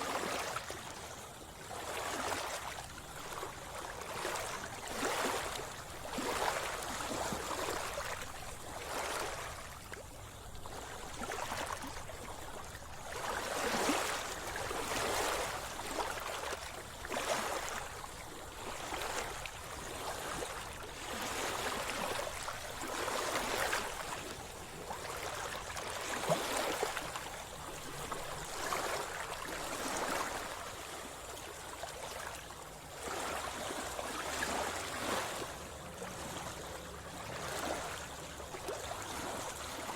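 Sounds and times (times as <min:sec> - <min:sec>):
sea water splashing and sloshing: 0:00.0 - 0:39.9.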